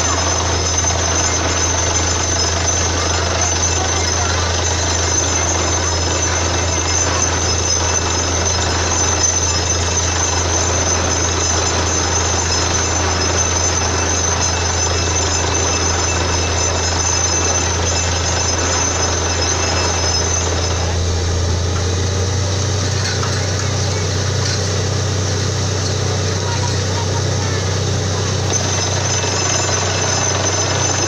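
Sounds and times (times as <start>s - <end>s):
drilling rig machine drone: 0.0s - 31.0s
high machine whine: 0.0s - 31.0s.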